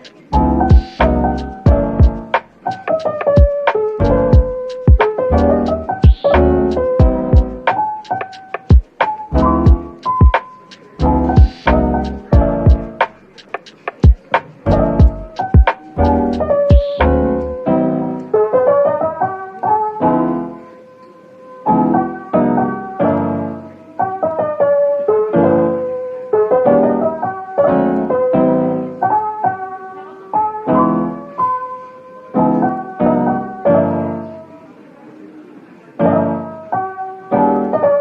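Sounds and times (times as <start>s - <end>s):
soft piano melody: 0.0s - 38.0s.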